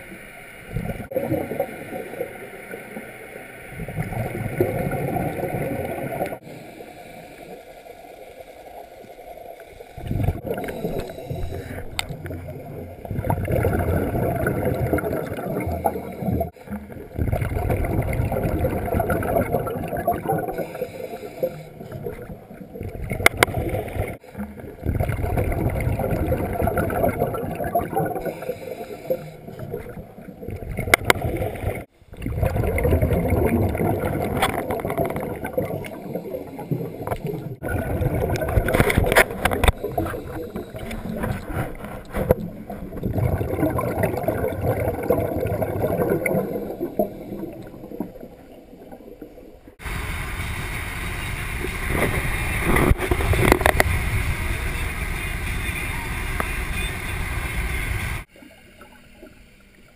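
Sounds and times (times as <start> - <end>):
muffled water rushing and gurgling: 0.0 - 59.9.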